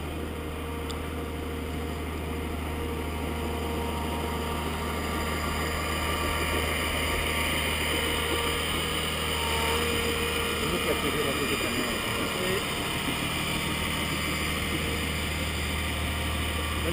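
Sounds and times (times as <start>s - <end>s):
snowcat engine droning: 0.0s - 16.9s.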